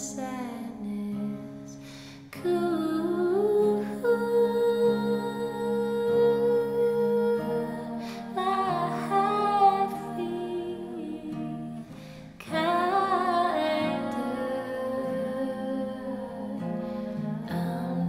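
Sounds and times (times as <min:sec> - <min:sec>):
acoustic guitar chords: 0:00.0 - 0:18.0
woman singing: 0:00.0 - 0:18.0.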